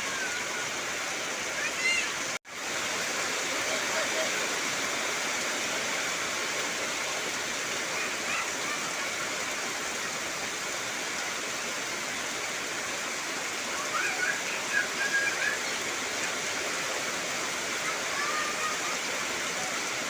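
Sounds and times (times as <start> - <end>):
heavy rain on trees: 0.0 - 20.0.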